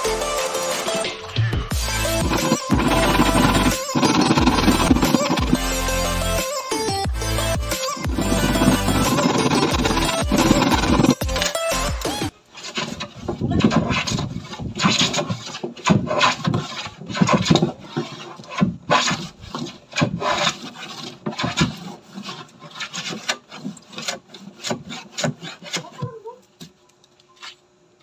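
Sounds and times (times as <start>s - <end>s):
hand plane shaving wood: 1.8s - 6.4s, 7.3s - 11.9s, 12.5s - 26.2s.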